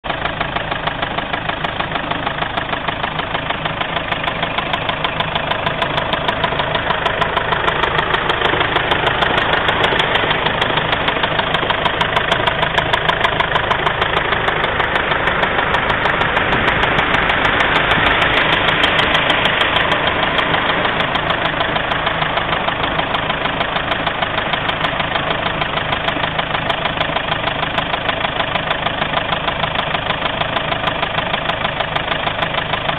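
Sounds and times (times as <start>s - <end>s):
car engine rumbling: 0.0s - 32.9s.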